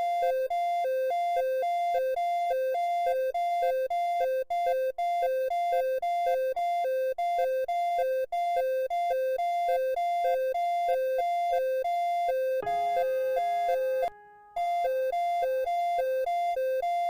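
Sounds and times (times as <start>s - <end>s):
two-tone emergency alarm: 0.0s - 17.0s.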